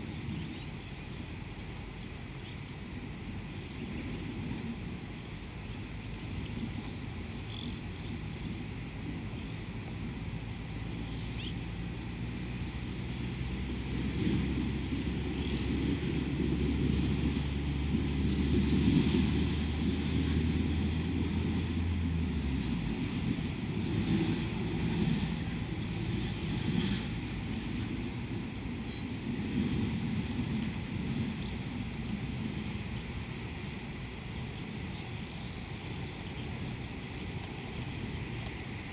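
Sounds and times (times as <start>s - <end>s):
high-pitched insect drone: 0.0s - 38.9s
low rumbling noise: 3.0s - 38.9s.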